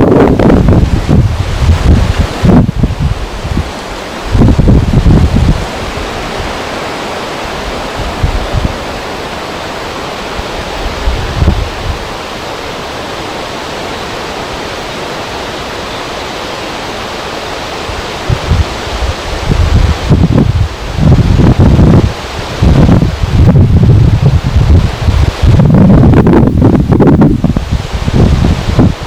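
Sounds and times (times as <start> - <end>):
wind gusts buffeting microphone: 0.0 - 29.0
wind rushing over river: 0.0 - 29.0.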